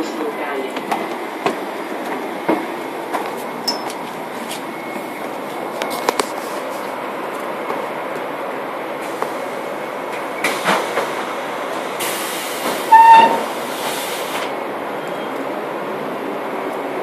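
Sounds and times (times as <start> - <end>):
trolleybus running noise: 0.0 - 17.0.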